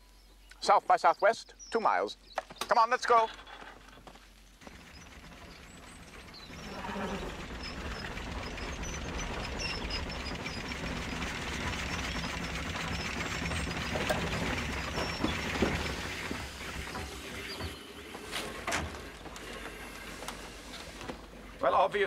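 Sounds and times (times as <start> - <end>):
old cars clattering and rattling: 2.4 - 22.0.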